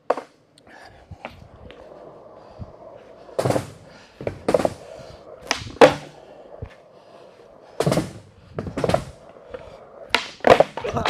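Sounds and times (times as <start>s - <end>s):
skateboard tail clacking: 0.0s - 11.0s
skateboard wheels rolling on concrete: 0.0s - 11.0s.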